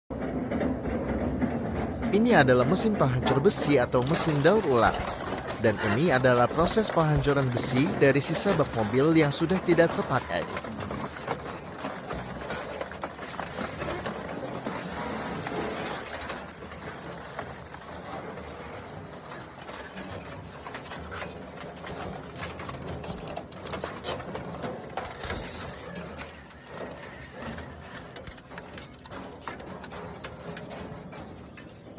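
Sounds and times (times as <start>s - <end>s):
metal shredder running: 0.1s - 31.9s
metal tearing cracks: 3.7s - 31.6s.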